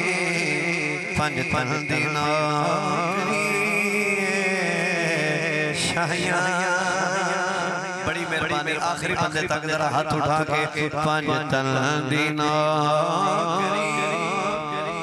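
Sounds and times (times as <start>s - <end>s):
man singing over loudspeakers: 0.0s - 15.0s.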